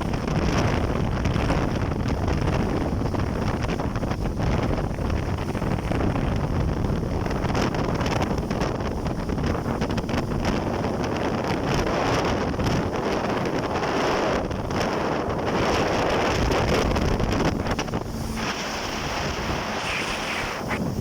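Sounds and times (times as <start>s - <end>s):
jet ski rushing: 0.0s - 21.0s
wind buffeting microphone: 0.0s - 21.0s.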